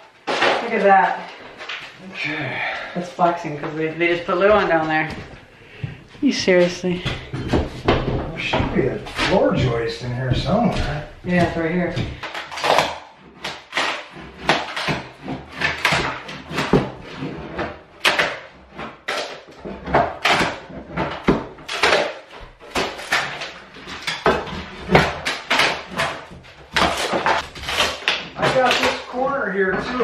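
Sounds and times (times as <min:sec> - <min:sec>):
wood cracking and splitting: 0:00.2 - 0:02.3, 0:07.6 - 0:30.0.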